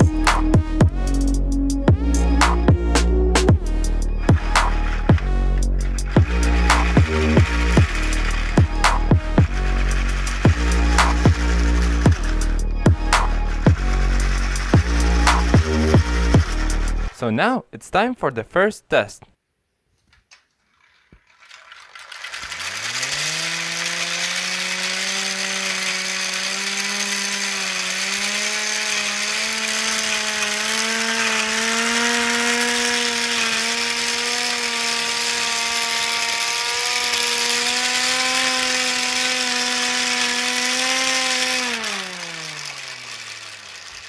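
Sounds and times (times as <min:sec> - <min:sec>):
whir of gears and rotor: 0:00.0 - 0:17.2, 0:21.2 - 0:44.0
hand-cranked siren wailing: 0:01.0 - 0:17.2, 0:21.4 - 0:44.0.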